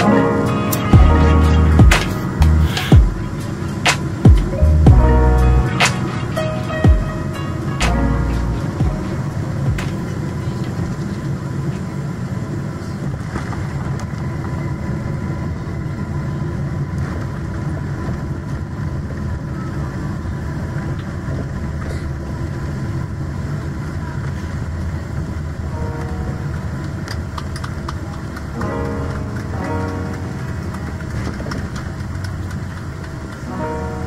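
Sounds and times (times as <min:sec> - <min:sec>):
vehicle rumbling from inside: 0:00.0 - 0:34.0.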